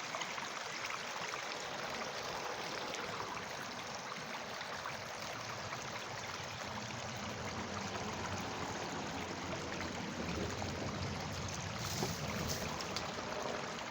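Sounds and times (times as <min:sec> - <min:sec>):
creek water flowing: 0:00.0 - 0:13.9.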